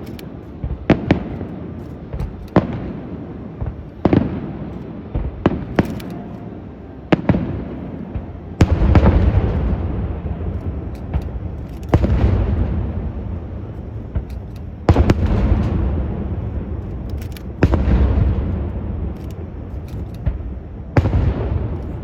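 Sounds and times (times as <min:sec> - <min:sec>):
firework shells booming: 0:00.0 - 0:06.2, 0:07.1 - 0:22.0
firework pops and crackles: 0:00.0 - 0:06.3, 0:08.2 - 0:22.0.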